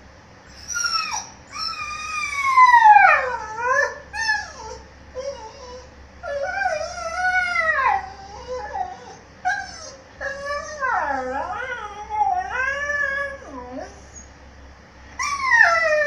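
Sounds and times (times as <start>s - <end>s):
puppy whining and howling: 0.5s - 14.4s, 15.2s - 16.0s.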